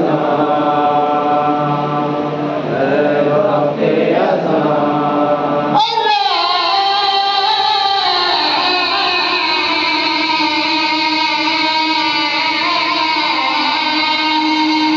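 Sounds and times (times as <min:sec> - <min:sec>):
men chanting a lament: 0:00.0 - 0:14.9.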